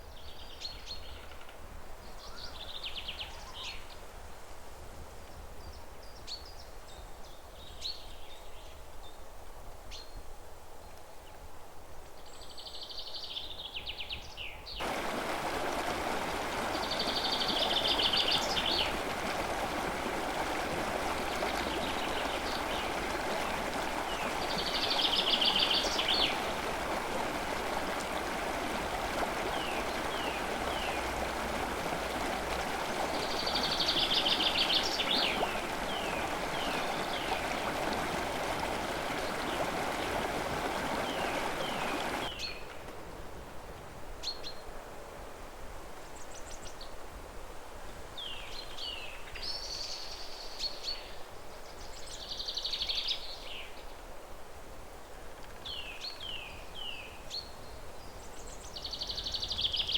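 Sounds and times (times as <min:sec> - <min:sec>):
forest ambience hiss: 0:00.0 - 0:59.9.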